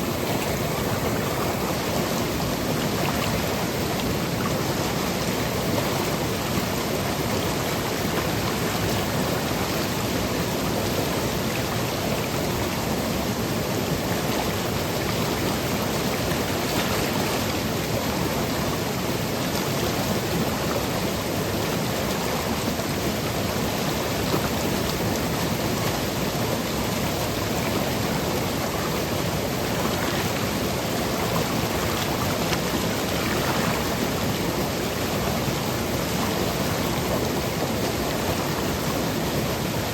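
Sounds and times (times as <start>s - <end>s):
stream cascading over rocks: 0.0s - 39.9s.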